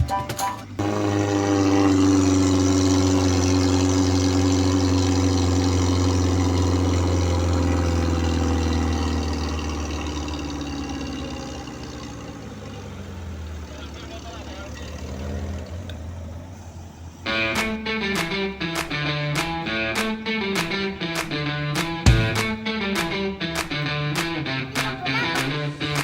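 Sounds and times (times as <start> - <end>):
jeep engine running: 0.0 - 26.0.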